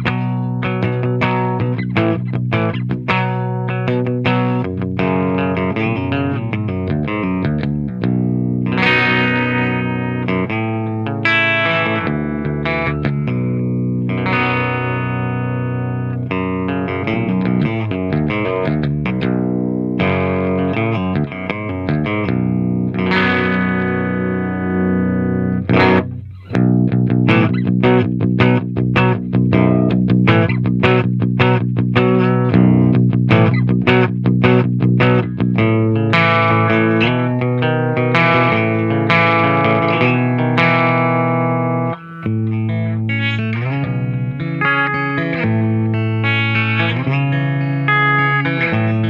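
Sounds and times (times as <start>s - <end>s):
distorted electric guitar metal riff: 0.0s - 49.0s.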